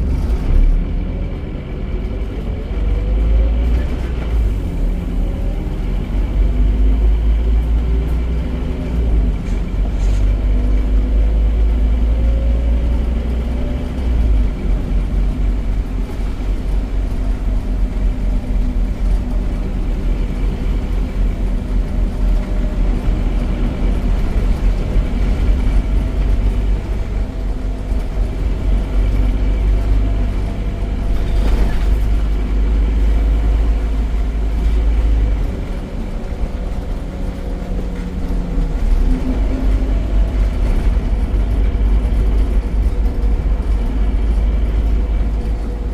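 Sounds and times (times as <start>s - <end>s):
bus diesel engine rumbling: 0.0s - 45.9s.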